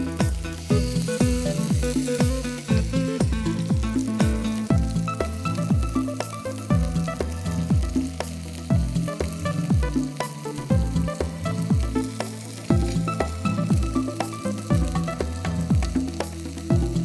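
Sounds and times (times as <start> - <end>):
background music with deep bass: 0.0 - 17.0
chicken sizzling in grill pan: 0.0 - 17.0.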